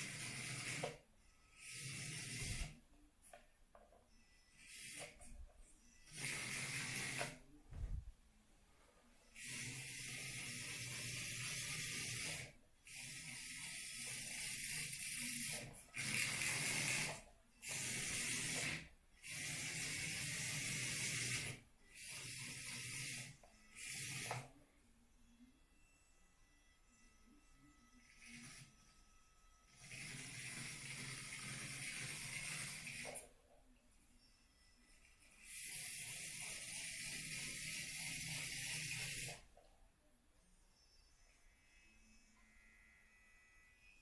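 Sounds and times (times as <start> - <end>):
toy motor whirring: 0.0 - 3.4, 4.1 - 7.6, 9.3 - 24.6, 25.8 - 33.5, 34.5 - 39.6, 40.8 - 44.0.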